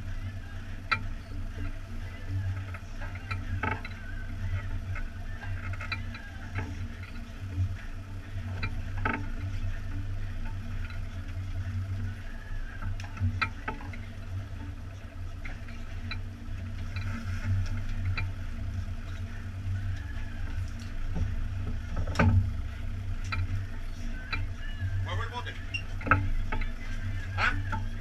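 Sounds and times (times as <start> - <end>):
outboard motors idling: 0.0 - 28.0.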